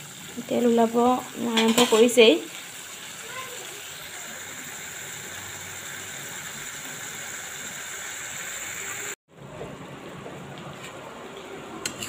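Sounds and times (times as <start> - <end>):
food frying in oil: 0.0 - 12.0.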